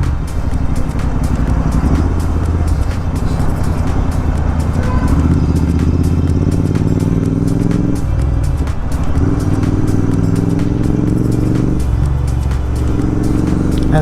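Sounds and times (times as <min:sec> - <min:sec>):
motorcycle engine under throttle: 0:00.0 - 0:14.0.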